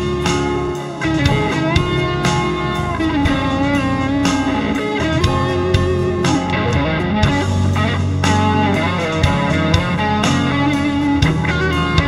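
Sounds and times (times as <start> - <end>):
pop ballad with band: 0.0 - 12.0
drum beat: 0.3 - 12.0.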